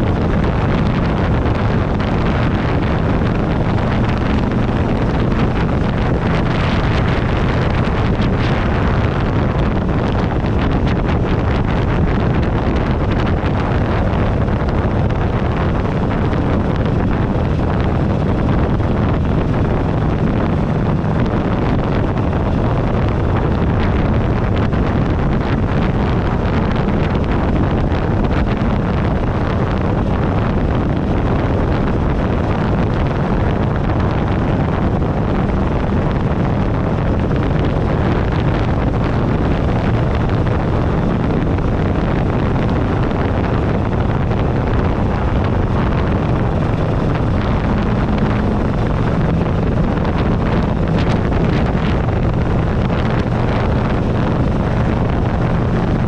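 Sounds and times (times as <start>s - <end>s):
motorcycle engine: 0.0s - 56.0s
wind buffeting microphone: 0.0s - 56.0s.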